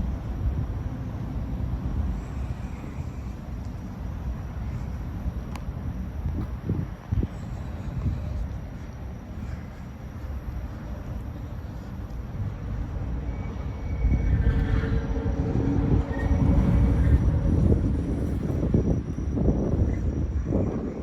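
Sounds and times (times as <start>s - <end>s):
train wheels rumbling on bridge: 0.0s - 21.0s.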